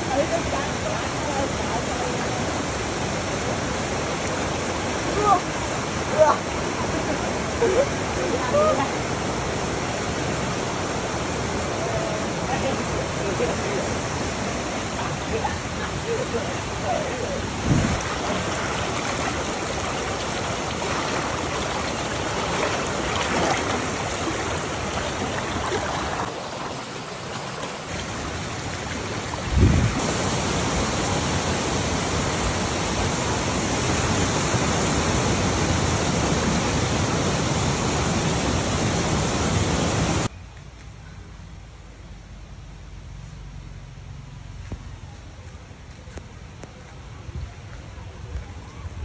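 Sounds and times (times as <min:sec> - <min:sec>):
stream rushing over rocks: 0:00.0 - 0:40.3.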